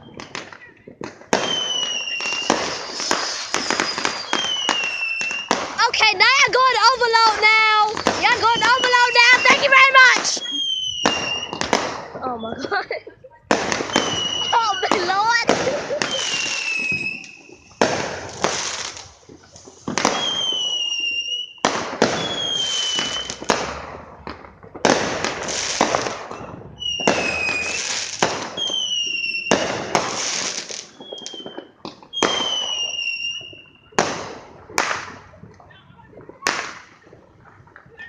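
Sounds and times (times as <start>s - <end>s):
fireworks whistles: 0.0s - 12.8s, 13.5s - 35.3s
fireworks banging: 0.0s - 38.0s
fireworks crackling: 0.0s - 38.0s.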